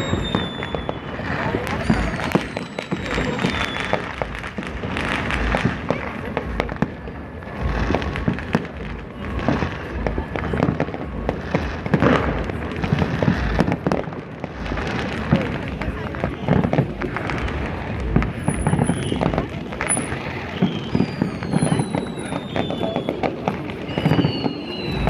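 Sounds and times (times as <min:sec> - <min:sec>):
fireworks crackling and popping: 0:00.0 - 0:25.0
low fireworks booms: 0:00.0 - 0:25.0.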